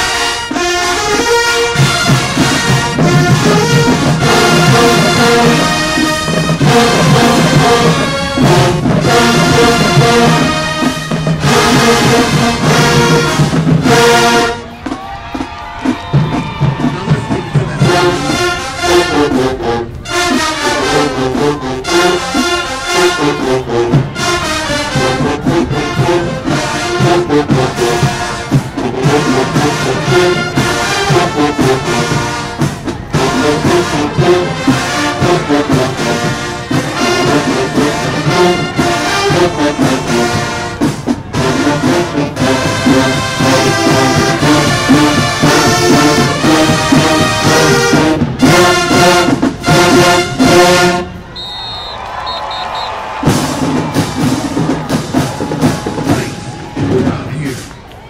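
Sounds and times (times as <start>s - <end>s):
brass section melody: 0.0s - 57.6s
drumline beat: 0.0s - 58.0s.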